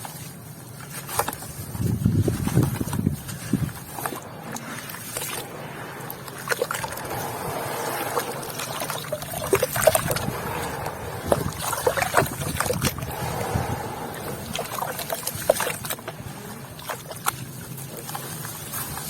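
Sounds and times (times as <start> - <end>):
watery sloshing: 0.0 - 19.0
wet cement crunching: 0.0 - 19.0.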